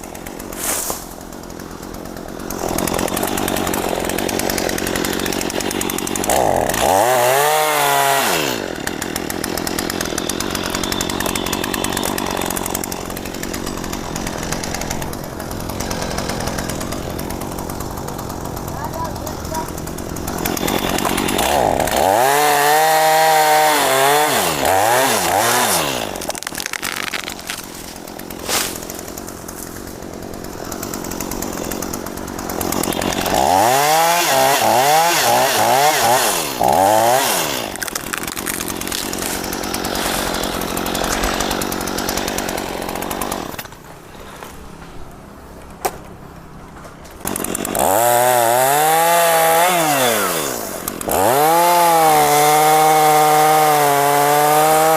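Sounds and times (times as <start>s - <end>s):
chainsaw cutting tree: 0.0s - 54.9s.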